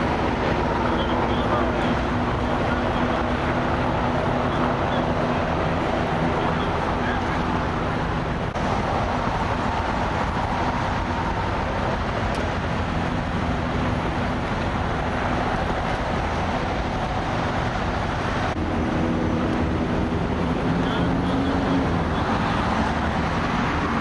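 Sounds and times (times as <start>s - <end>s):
engine idling hum: 0.0s - 23.8s
roadway traffic noise: 0.0s - 24.0s.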